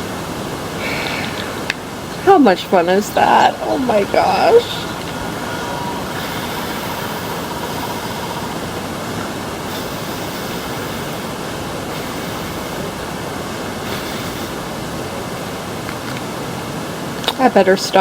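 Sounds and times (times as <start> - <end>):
steady rushing noise: 0.0 - 17.9.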